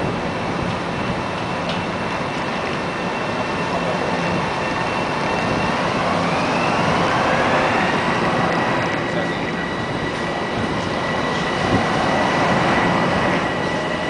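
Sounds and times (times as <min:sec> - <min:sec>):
train cars rumbling: 0:00.0 - 0:14.0
train motor whine: 0:00.0 - 0:14.0.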